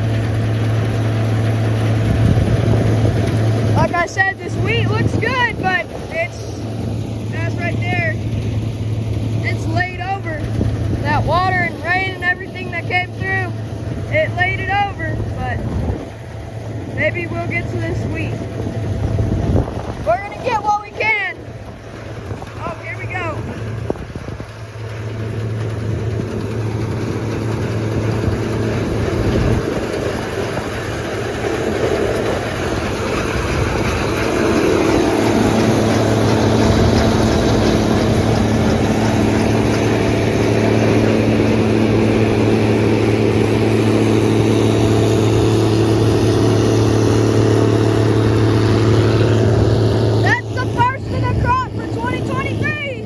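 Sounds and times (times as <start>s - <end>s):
combine harvester engine drone: 0.0s - 53.0s
higher machinery tone: 0.0s - 53.0s.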